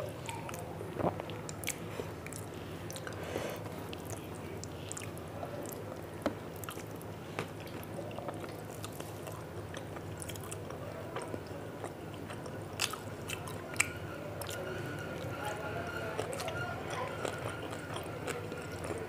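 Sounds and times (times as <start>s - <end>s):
steady low hum: 0.0s - 19.0s
person chewing food: 0.2s - 14.6s, 16.2s - 19.0s.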